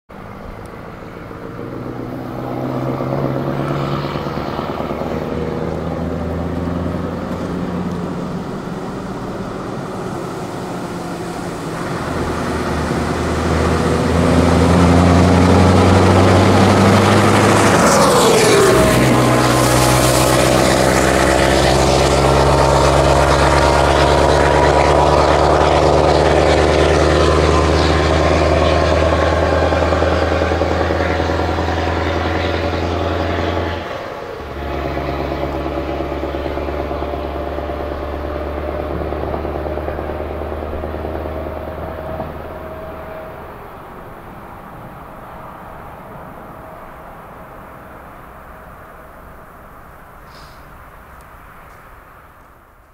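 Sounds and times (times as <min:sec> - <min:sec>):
truck engine with clattering exhaust: 0:00.1 - 0:52.9
truck passing by: 0:00.1 - 0:52.9.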